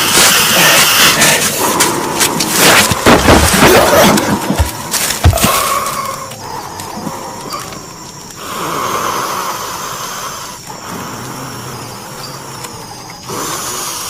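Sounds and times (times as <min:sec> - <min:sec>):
person breathing heavily: 0:00.0 - 0:03.0, 0:04.7 - 0:14.0.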